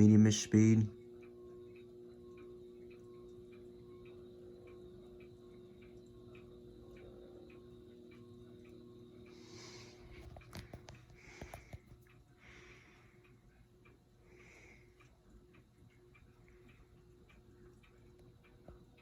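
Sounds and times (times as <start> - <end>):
ceiling fan motor hum: 0.0 - 19.0
light regular ticking: 0.0 - 19.0.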